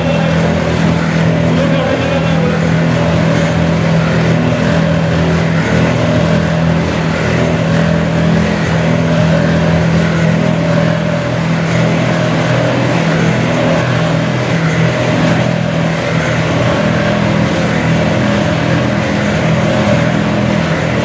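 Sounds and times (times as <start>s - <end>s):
oil expeller machine droning: 0.0s - 21.0s.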